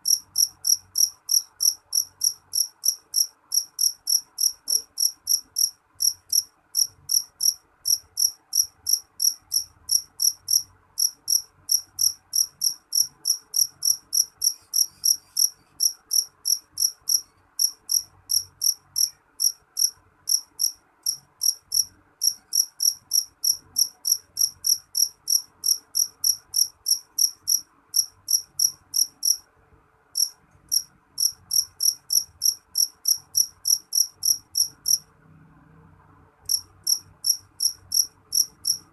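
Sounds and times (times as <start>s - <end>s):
field cricket chirping: 0.0s - 29.4s, 30.2s - 35.0s, 36.5s - 38.8s.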